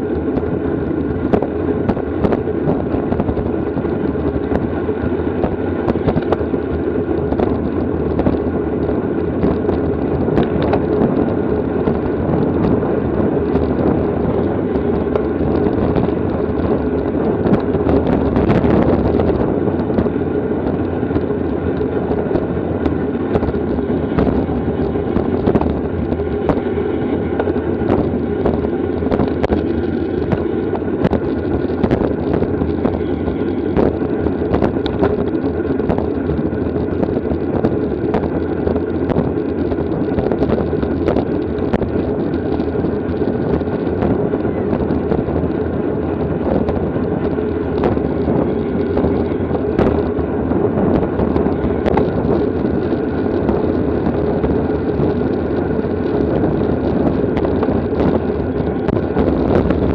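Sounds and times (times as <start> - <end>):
sharp clicks and ticks from bike: 0.0 - 59.9
wind rushing over microphone: 0.0 - 59.9.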